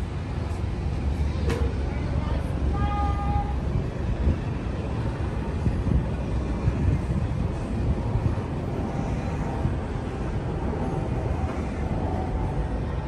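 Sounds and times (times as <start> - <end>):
moving train low rumble: 0.0 - 13.0.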